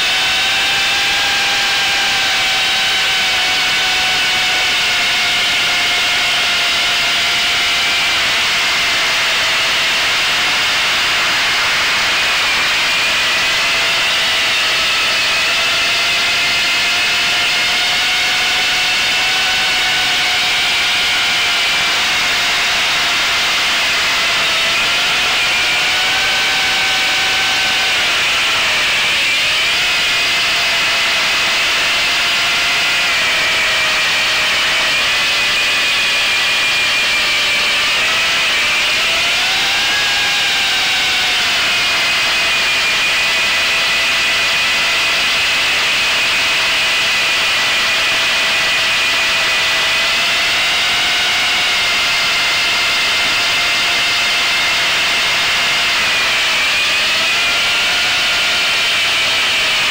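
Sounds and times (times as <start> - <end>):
model aircraft motors buzzing: 0.0 - 59.9.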